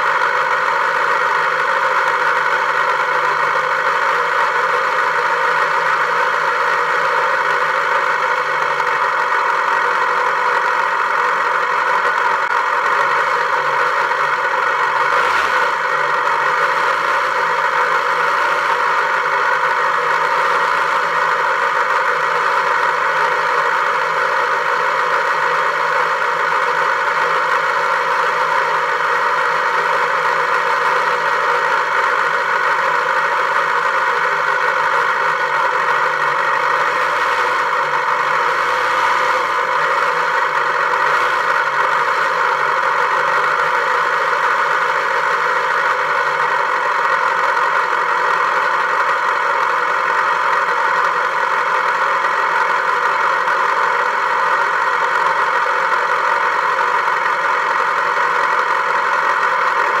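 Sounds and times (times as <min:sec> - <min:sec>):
steady vehicle engine: 0:00.0 - 1:00.0.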